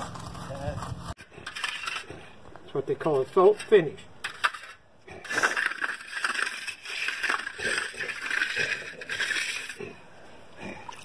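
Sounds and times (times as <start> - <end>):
tool scraping gritty concrete: 0.0 - 10.0.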